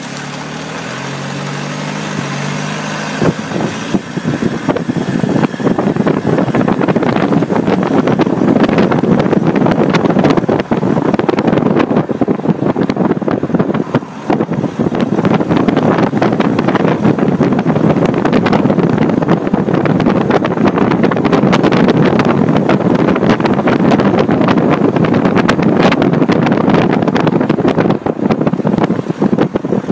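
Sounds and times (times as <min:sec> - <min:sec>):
tyre and road noise: 0:00.0 - 0:29.9
wind buffeting on microphone: 0:00.0 - 0:29.9.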